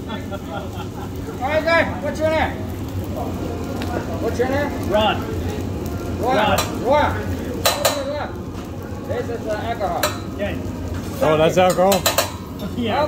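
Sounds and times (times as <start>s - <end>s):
diners talking: 0.0s - 13.0s
rice sizzling on a griddle: 0.0s - 13.0s.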